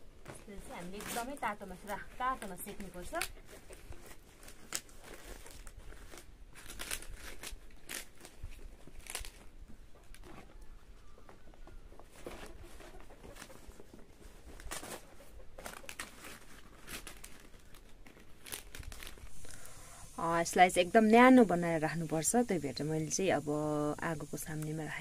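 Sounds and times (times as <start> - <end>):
leaves crinkling and rustling: 0.1 - 10.8, 12.0 - 25.0.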